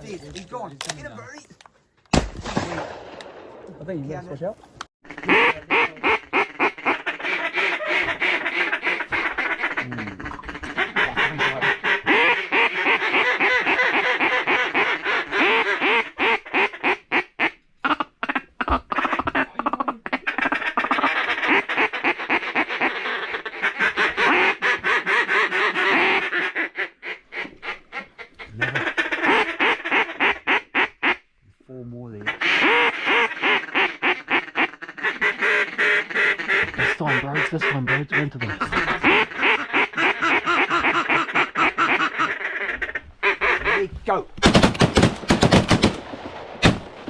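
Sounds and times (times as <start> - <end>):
ducks quacking rapidly: 5.0 - 31.2, 32.0 - 44.8.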